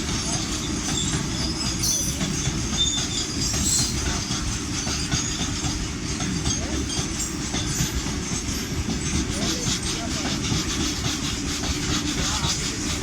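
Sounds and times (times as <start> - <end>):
train wagons rumbling: 0.0 - 13.0
wheels clattering over rail joints: 0.0 - 13.0
faint high wheel squeal: 0.1 - 11.0.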